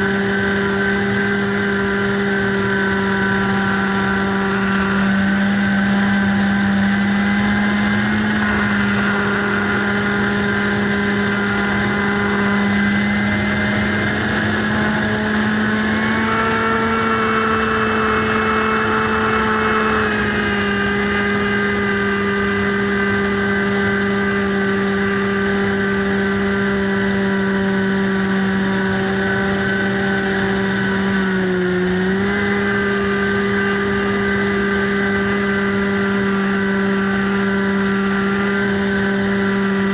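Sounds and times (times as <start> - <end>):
model plane propeller drone: 0.0 - 39.9.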